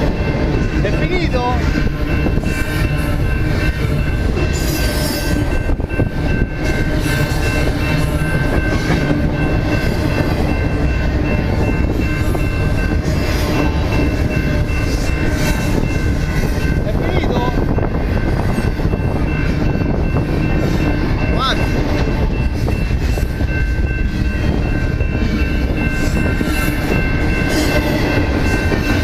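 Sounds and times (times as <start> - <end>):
high train whine: 0.0 - 29.0
train rumbling: 0.0 - 29.0.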